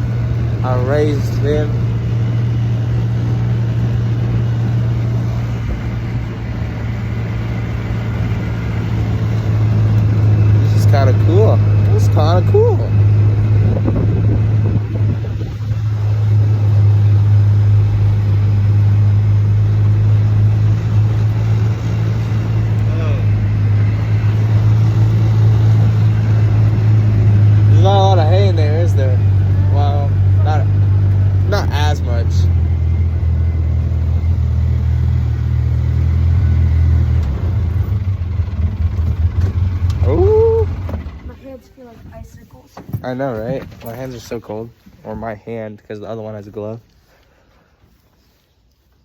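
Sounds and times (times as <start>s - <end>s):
vehicle engine drone: 0.0s - 48.4s
road and wind noise: 0.0s - 49.0s.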